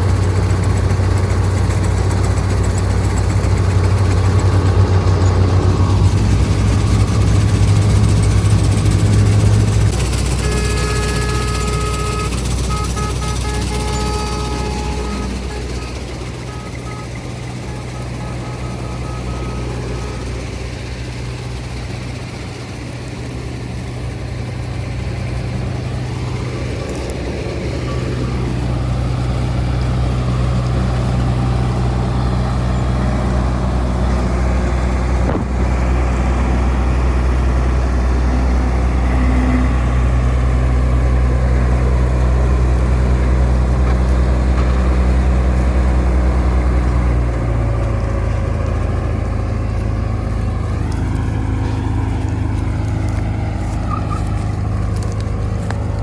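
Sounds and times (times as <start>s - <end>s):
combine harvester engine droning: 0.0s - 56.0s.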